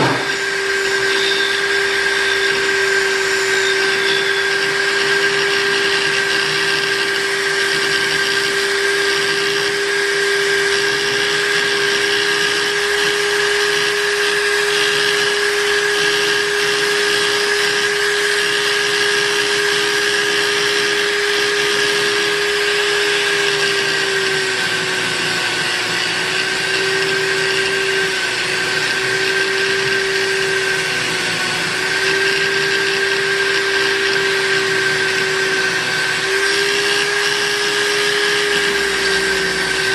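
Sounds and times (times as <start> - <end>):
buffing machine motor whine: 0.0 - 39.9.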